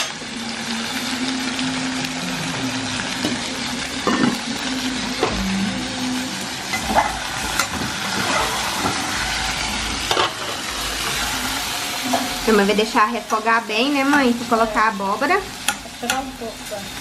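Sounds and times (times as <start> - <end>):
food sizzling in pans: 0.0 - 17.0.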